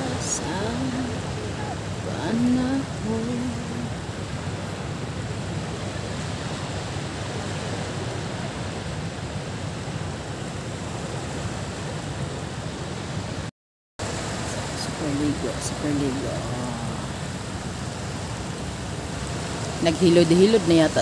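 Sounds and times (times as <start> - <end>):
calm water at shore: 0.0 - 21.0.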